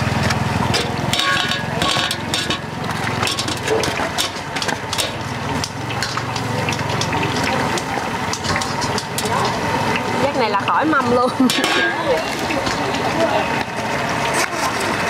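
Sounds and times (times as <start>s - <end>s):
gas burner rumbling: 0.0s - 15.0s
sharp crackles of frying: 0.0s - 15.0s.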